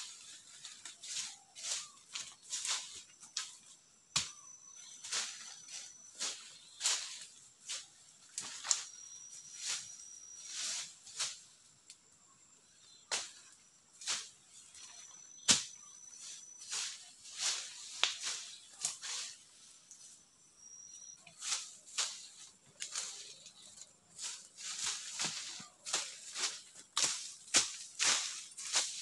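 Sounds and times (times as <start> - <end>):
dry leaves and twigs rustling: 0.0 - 29.0.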